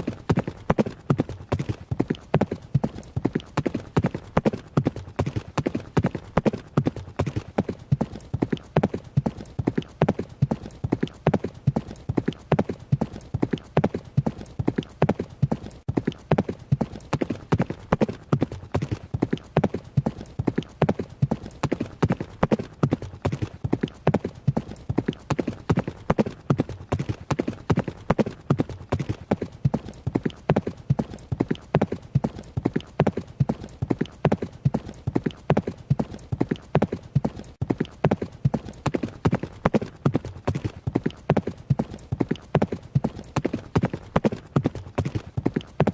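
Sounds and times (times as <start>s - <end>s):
horse hoofbeats galloping: 0.0s - 45.9s.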